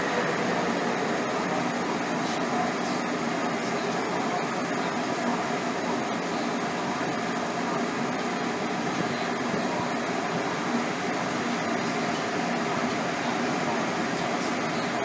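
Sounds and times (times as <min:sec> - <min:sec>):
locomotive cooling fans humming: 0:00.0 - 0:15.0.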